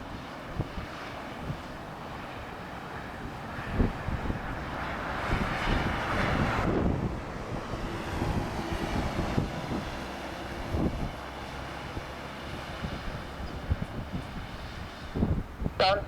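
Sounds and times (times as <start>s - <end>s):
jet engines rushing whine: 0.0s - 16.0s
wind gusting on microphone: 0.0s - 16.0s.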